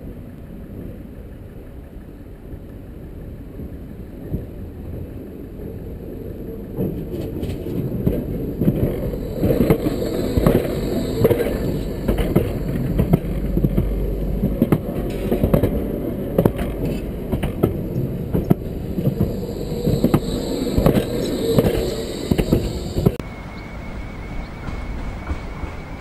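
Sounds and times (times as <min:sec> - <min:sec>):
tram wheels rolling on rail: 0:00.5 - 0:26.0.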